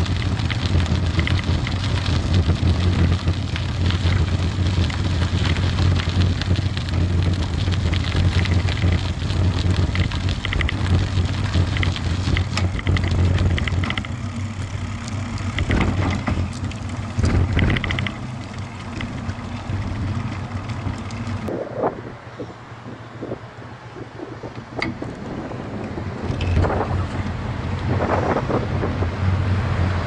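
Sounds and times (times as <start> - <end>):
wind noise: 0.0 - 14.8, 15.4 - 30.0
bicycle rattling over paving stones: 0.0 - 21.5, 24.6 - 28.4
low road rumble: 0.0 - 30.0.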